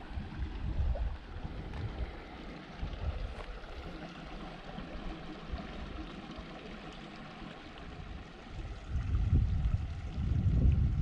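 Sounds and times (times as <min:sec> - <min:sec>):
low rumble on microphone: 0:00.0 - 0:06.6, 0:07.2 - 0:11.0.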